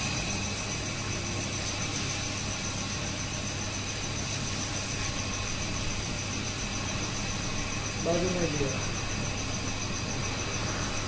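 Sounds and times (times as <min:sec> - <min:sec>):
even hiss: 0:00.0 - 0:11.0
steady mechanical hum: 0:00.0 - 0:11.0.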